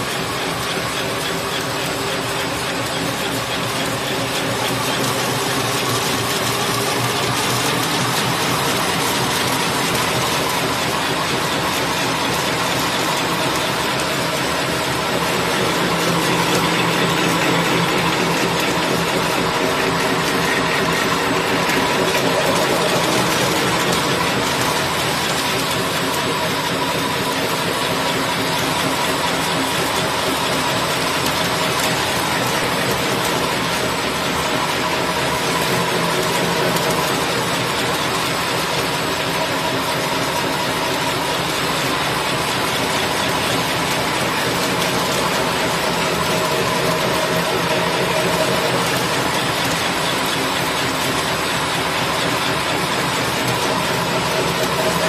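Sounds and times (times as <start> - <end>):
packing machine whirring: 0.0 - 55.0
steady machine tones: 0.1 - 55.0.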